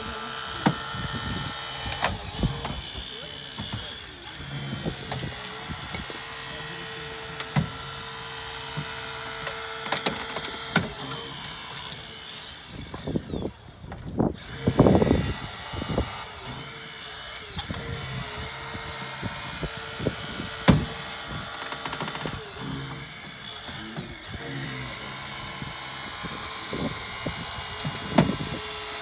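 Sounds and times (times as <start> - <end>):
hydraulic tool power unit hum: 0.0 - 29.0.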